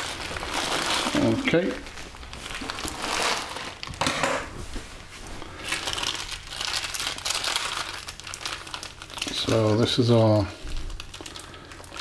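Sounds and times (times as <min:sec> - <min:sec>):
plastic bags crinkling: 0:00.0 - 0:04.1, 0:05.4 - 0:12.0.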